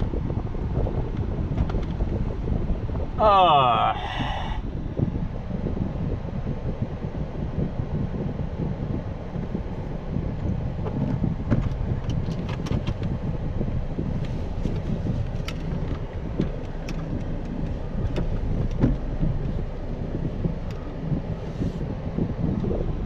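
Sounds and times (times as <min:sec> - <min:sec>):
low rumble of engine and tyres: 0:00.0 - 0:23.0.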